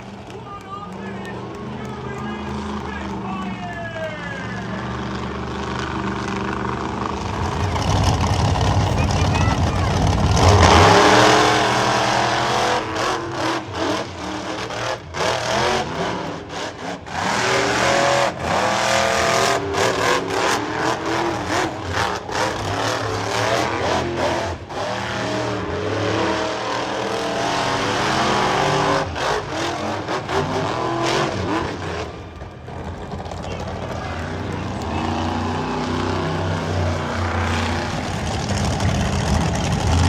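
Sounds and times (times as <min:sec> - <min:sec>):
monster truck engines revving: 0:00.0 - 0:40.0.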